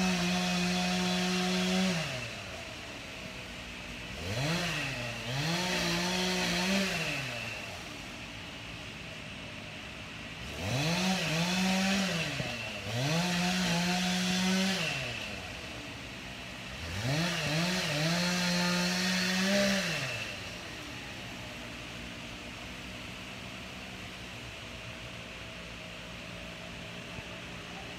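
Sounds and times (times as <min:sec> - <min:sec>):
chainsaw revving: 0:00.0 - 0:27.9.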